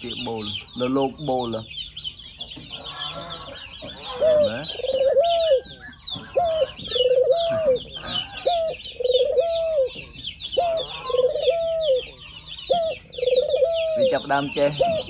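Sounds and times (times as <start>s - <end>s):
small birds chirping: 0.0s - 15.0s
dove cooing: 2.7s - 15.0s.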